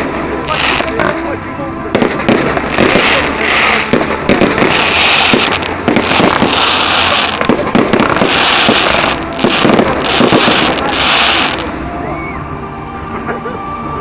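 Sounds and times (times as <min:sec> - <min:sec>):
fireworks bangs: 0:00.0 - 0:11.8
fireworks crackling: 0:00.0 - 0:11.8.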